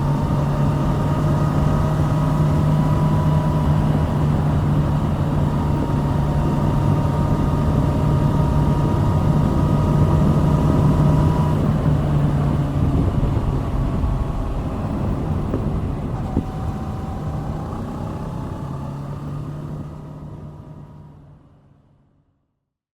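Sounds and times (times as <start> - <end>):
motorcycle engine running: 0.0 - 21.2.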